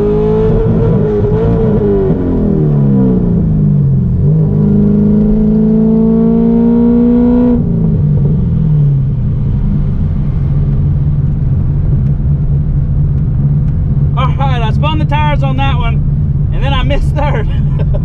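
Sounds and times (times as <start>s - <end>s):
car engine at full throttle: 0.0s - 18.0s.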